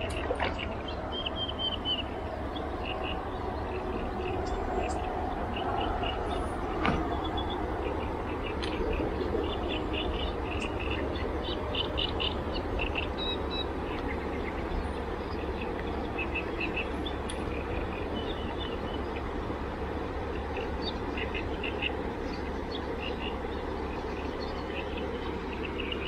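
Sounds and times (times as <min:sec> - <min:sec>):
rushing noise with low rumble: 0:00.0 - 0:26.0.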